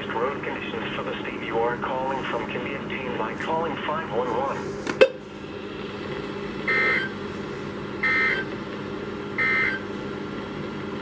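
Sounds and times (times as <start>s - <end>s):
radio hiss and hum: 0.0s - 8.9s.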